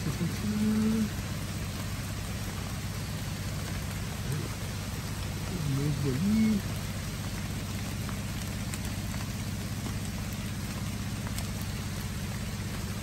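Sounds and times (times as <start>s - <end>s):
sharp raindrop taps: 0.0s - 13.0s
steady rain falling: 0.0s - 13.0s.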